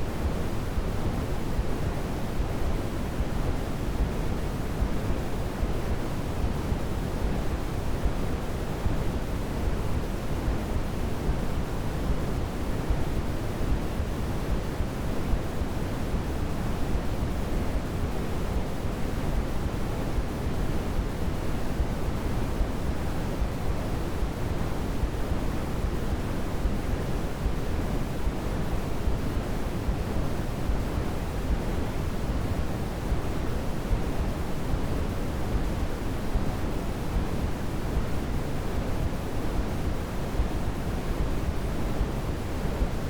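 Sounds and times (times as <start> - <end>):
steady white noise: 0.0 - 43.0.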